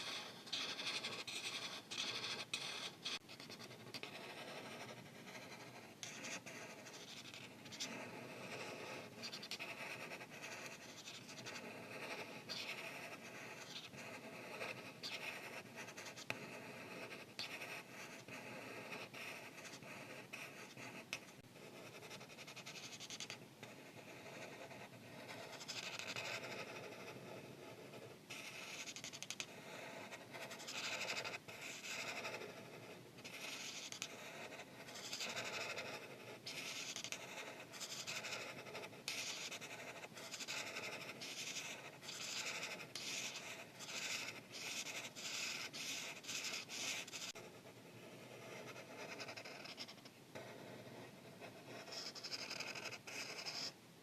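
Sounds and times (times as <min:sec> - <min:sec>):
marker scratching on paper: 0:00.0 - 0:53.8.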